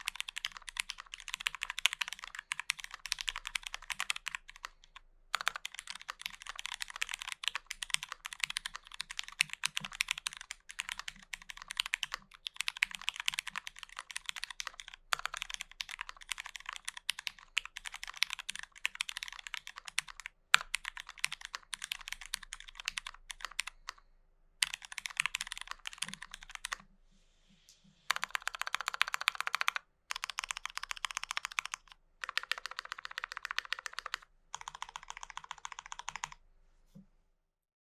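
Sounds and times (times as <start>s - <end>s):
mechanical keyboard typing: 0.0s - 24.0s, 24.6s - 26.8s, 28.1s - 36.4s.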